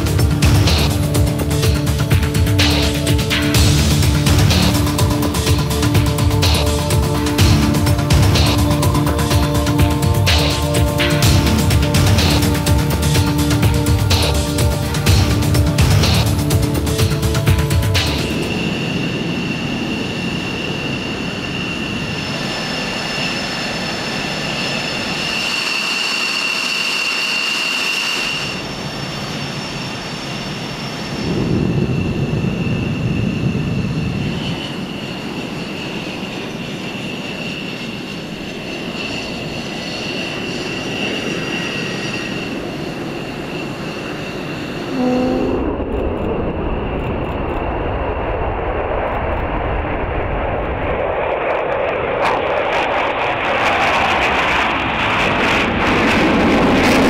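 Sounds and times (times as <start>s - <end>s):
distant jet rumble: 0.0s - 26.2s, 27.8s - 57.0s
jet engine high-pitched whine: 0.0s - 57.0s.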